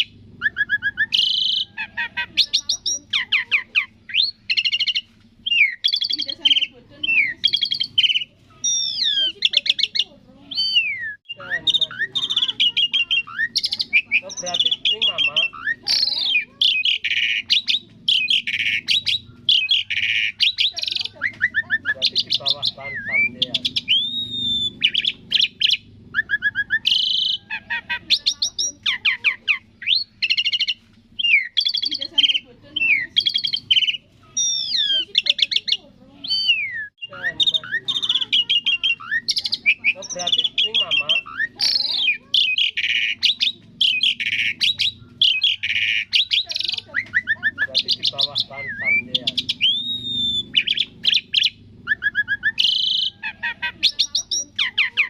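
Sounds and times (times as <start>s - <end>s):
starling singing with trills: 0.0s - 55.0s.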